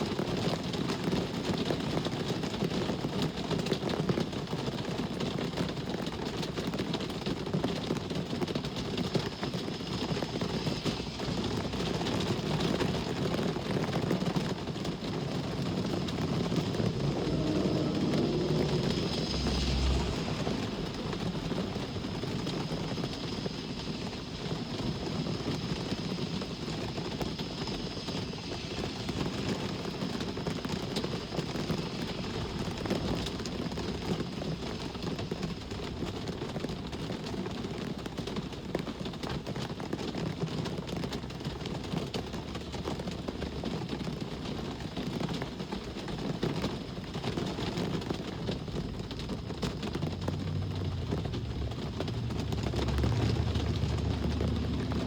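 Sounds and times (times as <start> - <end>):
steady rain: 0.0 - 55.0
road traffic rumble: 5.2 - 38.4, 41.0 - 55.0.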